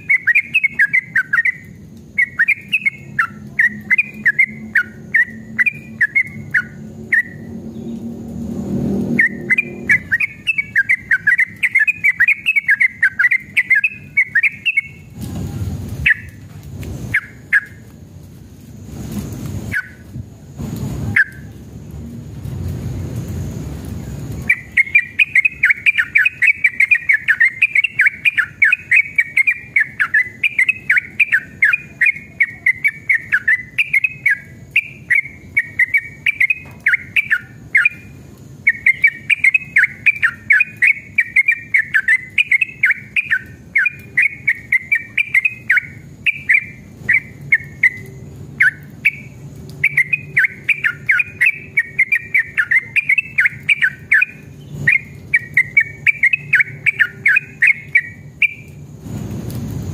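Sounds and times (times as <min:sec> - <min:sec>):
bird chattering song: 0:00.0 - 0:08.1, 0:09.0 - 0:15.2, 0:16.0 - 0:16.4, 0:17.1 - 0:17.9, 0:24.4 - 0:58.8.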